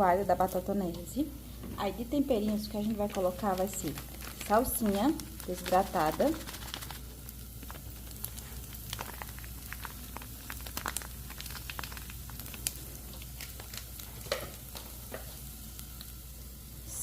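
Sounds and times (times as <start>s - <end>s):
food sizzling in a pan: 0.0s - 17.0s
sharp crackles and pops: 2.5s - 16.2s.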